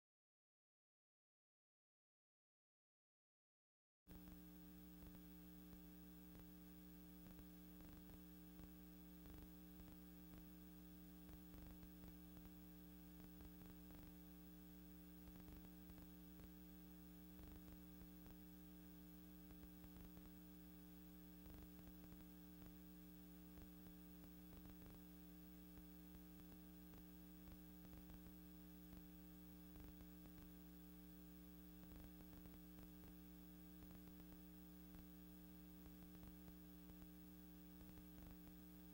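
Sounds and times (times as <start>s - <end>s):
faint electrical hum: 4.1s - 38.9s
static ticks: 4.1s - 38.9s.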